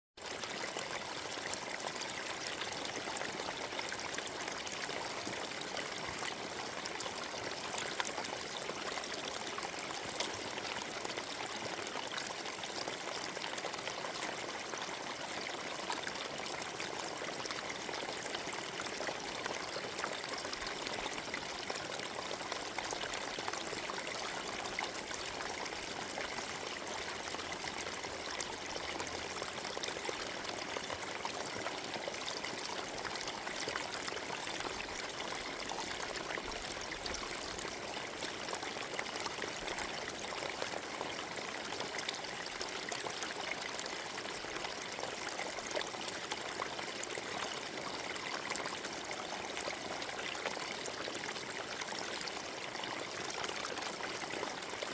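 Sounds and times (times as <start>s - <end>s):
stream trickling over stones: 0.2s - 54.9s.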